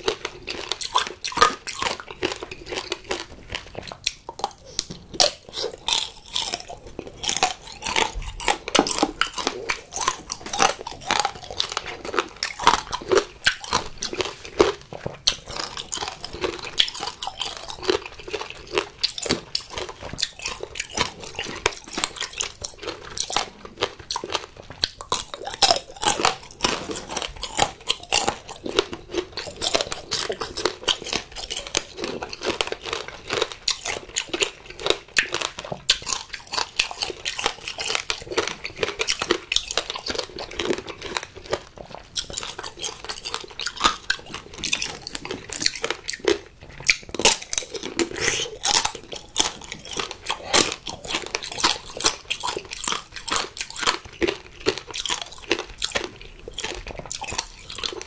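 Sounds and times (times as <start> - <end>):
crunching hard candy shell: 0.0 - 58.0.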